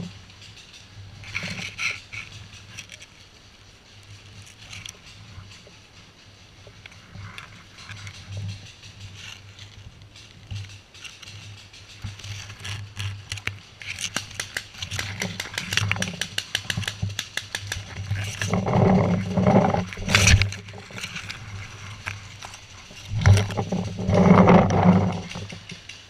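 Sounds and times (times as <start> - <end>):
rustling rumble: 0.0 - 26.0.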